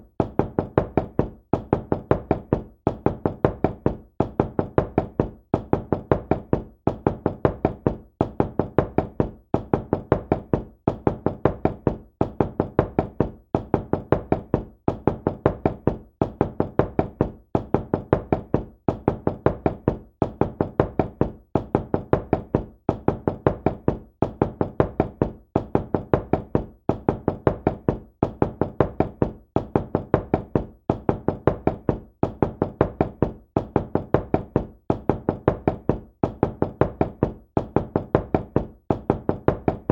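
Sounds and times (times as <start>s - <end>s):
knocking on a door: 0.0s - 39.9s.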